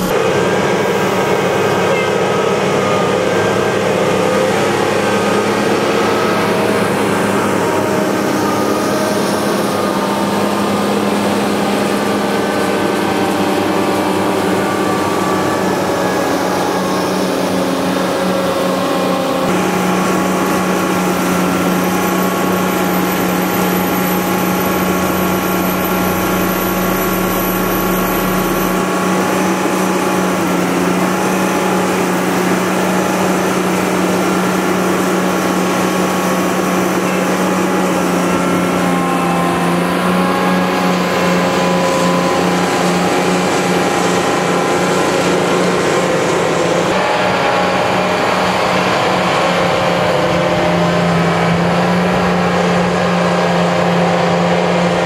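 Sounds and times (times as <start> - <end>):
truck diesel engines and hydraulics: 0.0 - 55.0.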